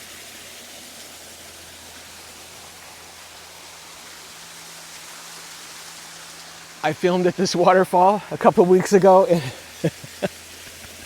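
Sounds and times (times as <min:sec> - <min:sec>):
waterfall rushing: 0:01.2 - 0:11.0.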